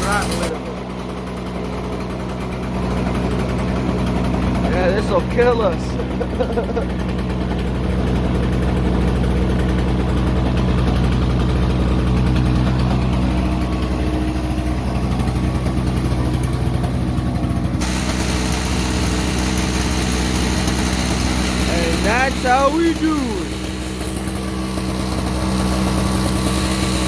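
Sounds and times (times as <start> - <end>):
snowblower engine running: 0.0 - 27.0.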